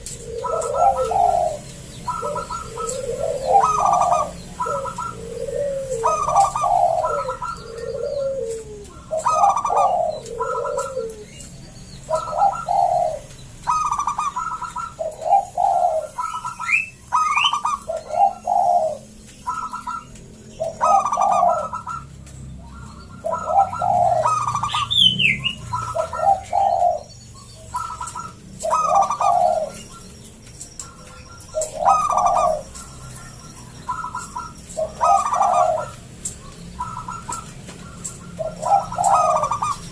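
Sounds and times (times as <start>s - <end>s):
dove cooing: 0.0s - 39.9s
small bird chirping: 0.0s - 39.9s.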